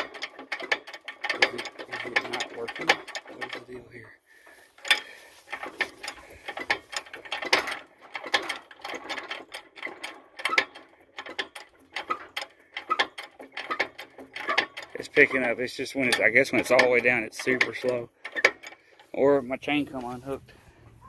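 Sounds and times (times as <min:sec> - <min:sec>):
metallic clicks and clanks: 0:00.0 - 0:21.0.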